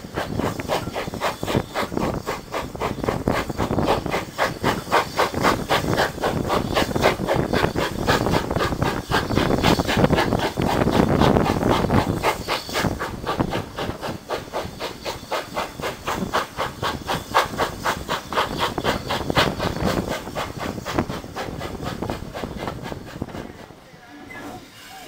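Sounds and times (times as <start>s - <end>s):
steam locomotive exhaust beats: 0.0s - 25.0s
train running rumble: 0.0s - 25.0s.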